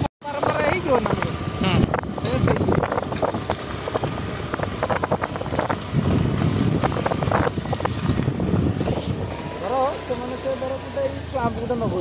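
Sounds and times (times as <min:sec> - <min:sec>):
wind buffeting microphone: 0:00.0 - 0:09.8
knocks and rattles over ruts: 0:00.0 - 0:12.0
motorcycle engine running: 0:00.0 - 0:12.0.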